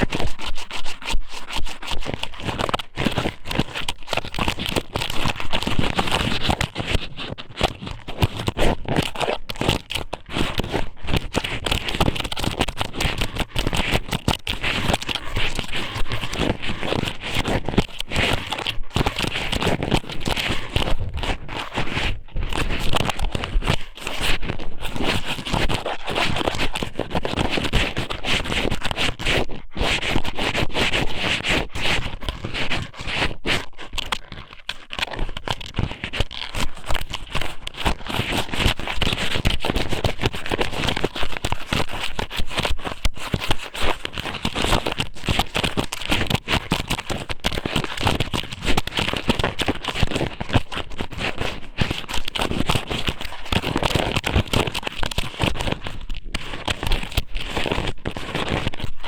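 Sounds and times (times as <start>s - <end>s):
crackling and scraping on microphone: 0.0s - 59.0s.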